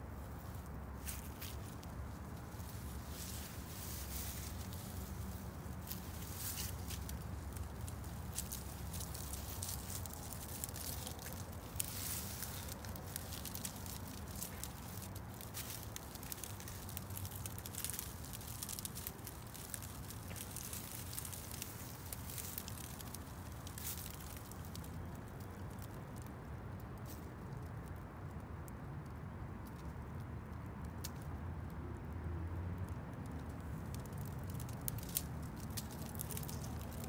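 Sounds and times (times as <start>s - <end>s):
soft crackling and ticking: 0.0s - 32.1s, 32.8s - 37.0s.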